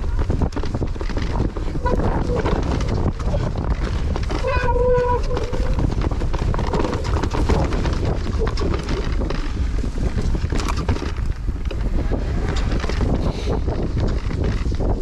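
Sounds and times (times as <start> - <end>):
bike rattles and knocks: 0.0 - 15.0
bike tyres rumbling over stones: 0.0 - 15.0
wind buffeting microphone: 0.0 - 15.0.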